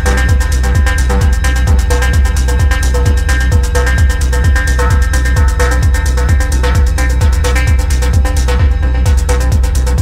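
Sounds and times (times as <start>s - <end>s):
fast hi-hats: 0.0s - 10.0s
kick drum: 0.0s - 10.0s.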